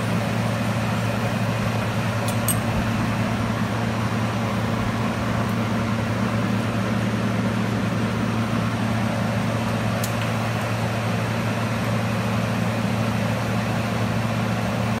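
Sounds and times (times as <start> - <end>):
fan-like air rush: 0.0 - 15.0.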